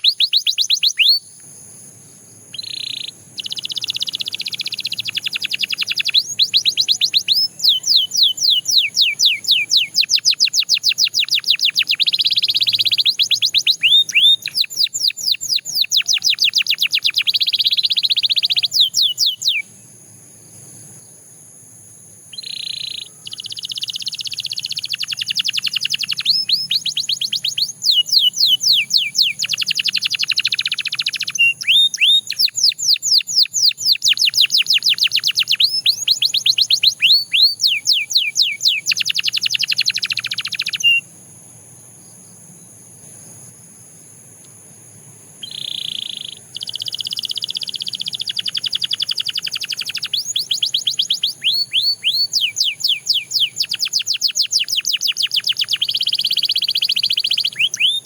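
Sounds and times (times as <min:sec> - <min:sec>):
canary singing: 0:00.0 - 0:01.3, 0:02.5 - 0:19.7, 0:22.3 - 0:41.1, 0:45.4 - 0:58.0.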